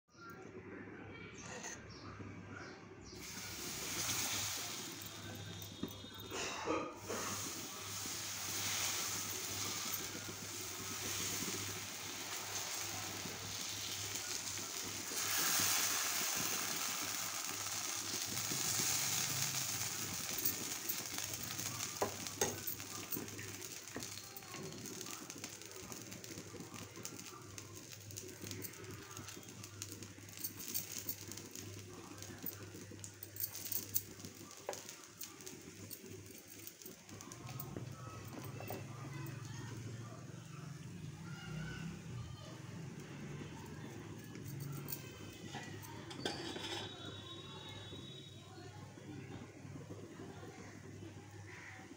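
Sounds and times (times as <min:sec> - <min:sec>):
batter sizzling on a griddle: 0:03.1 - 0:51.9.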